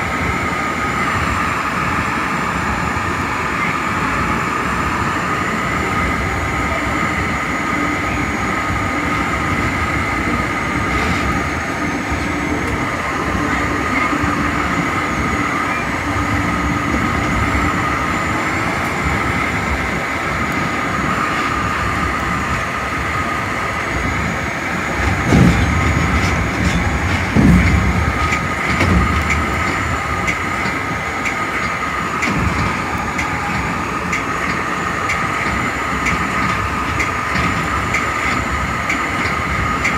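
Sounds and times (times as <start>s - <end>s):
high-pitched whine: 0.0s - 39.9s
train wheels rumbling on rail: 0.0s - 39.9s.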